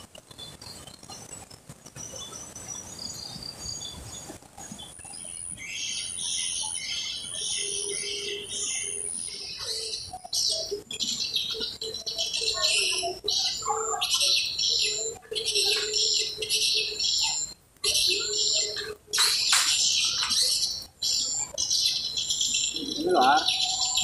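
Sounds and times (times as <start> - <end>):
birds chirping: 2.0 - 24.0.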